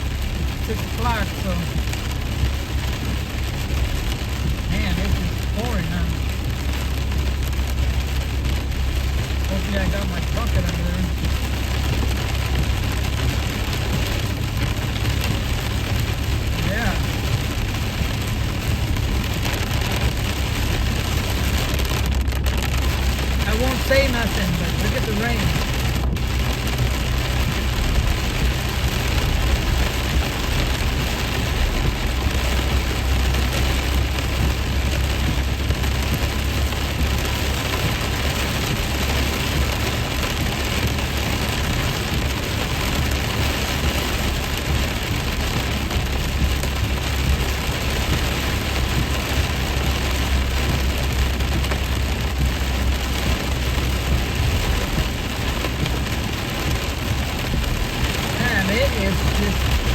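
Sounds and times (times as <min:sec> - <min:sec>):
heavy rain on a truck: 0:00.0 - 0:59.9
truck engine low rumble: 0:00.0 - 0:59.9.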